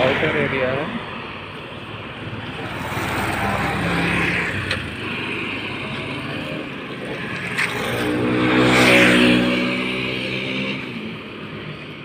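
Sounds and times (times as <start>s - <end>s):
road traffic passing: 0.0s - 12.0s
vehicle engine drone: 0.0s - 12.0s.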